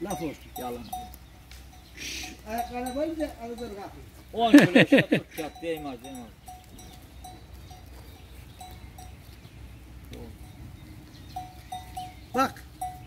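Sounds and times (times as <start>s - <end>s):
animal bells clinking: 0.0s - 13.0s.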